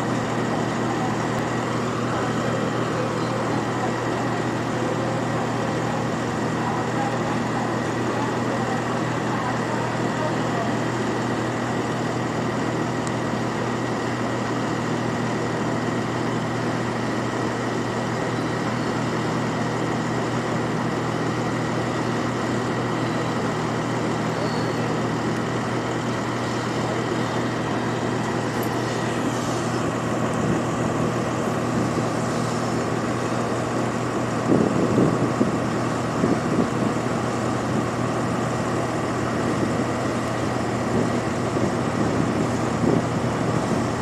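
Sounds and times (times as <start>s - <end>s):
diesel engine droning: 0.0s - 44.0s
outdoor hum: 0.0s - 44.0s.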